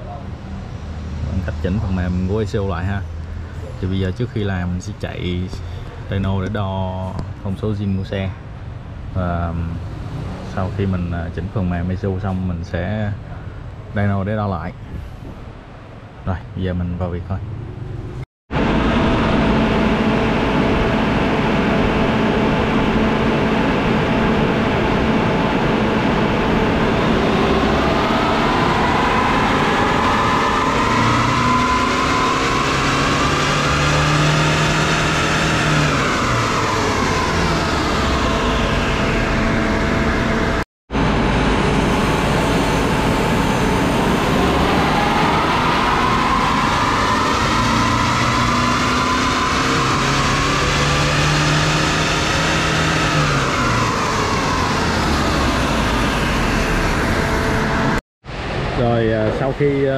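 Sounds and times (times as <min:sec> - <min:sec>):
diesel engine revving on dyno: 0:00.0 - 0:06.6, 0:09.2 - 0:12.1, 0:18.0 - 0:58.7.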